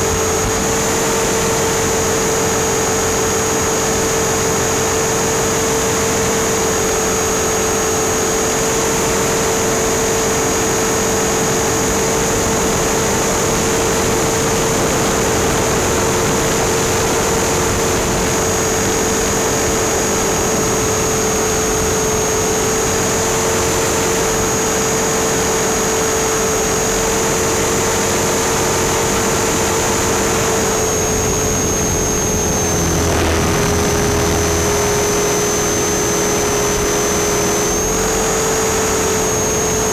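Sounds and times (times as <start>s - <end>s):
rc helicopter motor and rotor drone: 0.0s - 39.9s.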